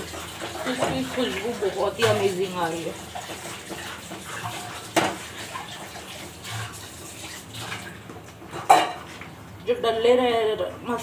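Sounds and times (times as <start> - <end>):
gravy bubbling and sizzling: 0.0 - 11.0.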